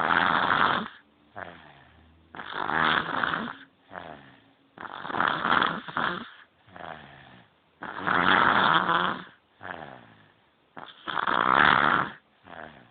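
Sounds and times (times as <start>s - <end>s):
baby snoring: 0.0s - 12.9s.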